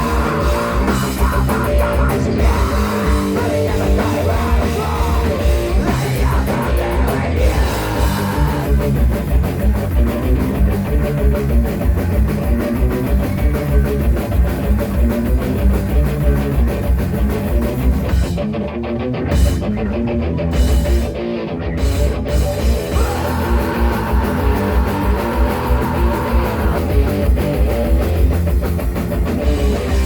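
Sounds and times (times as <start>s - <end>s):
drum kit beat: 0.0s - 18.6s, 19.2s - 30.0s
rock band playing: 0.0s - 30.0s.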